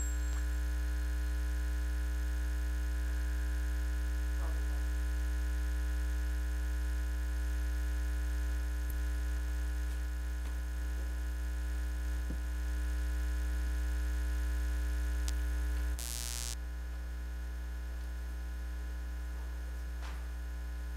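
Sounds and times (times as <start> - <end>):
electrical mains hum: 0.0 - 20.9.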